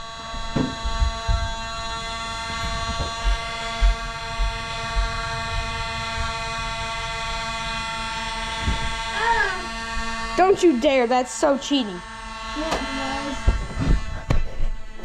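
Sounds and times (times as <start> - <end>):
flywheel motors buzzing: 0.0 - 15.0.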